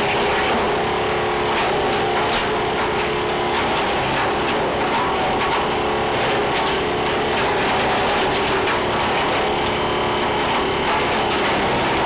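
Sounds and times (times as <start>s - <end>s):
branches cracking in chipper: 0.0s - 12.0s
wood chipper engine running: 0.0s - 12.0s.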